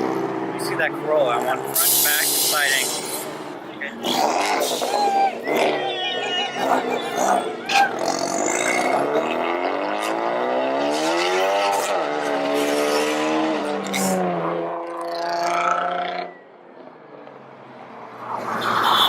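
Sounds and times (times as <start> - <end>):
car engine accelerating: 0.0 - 17.4.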